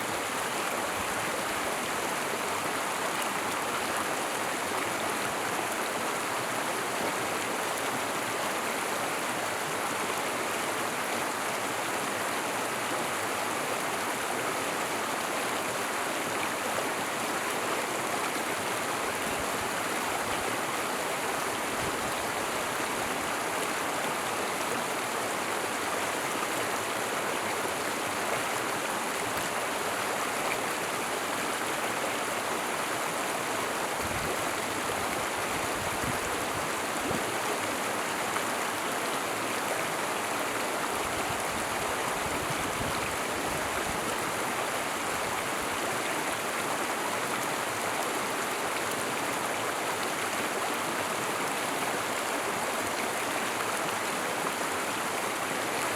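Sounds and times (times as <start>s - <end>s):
small stream flowing: 0.0s - 55.9s.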